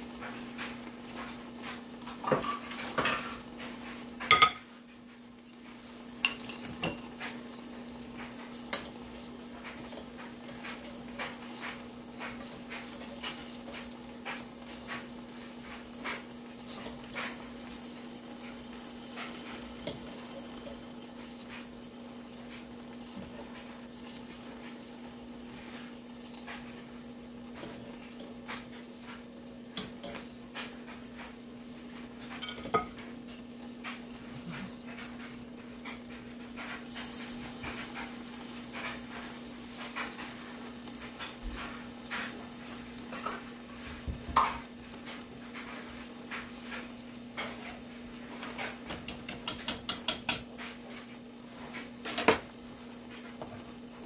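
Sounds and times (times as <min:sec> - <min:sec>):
sausages sizzling in a pan: 0:00.0 - 0:54.0.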